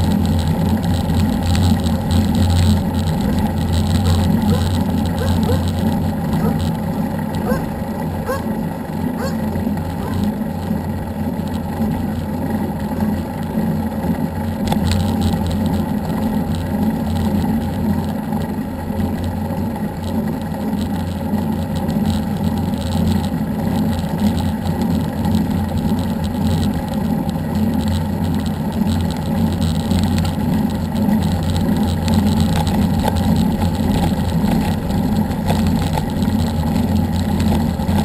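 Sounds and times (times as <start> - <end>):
road and wind noise: 0.0 - 38.0
vehicle engine humming: 0.0 - 38.0.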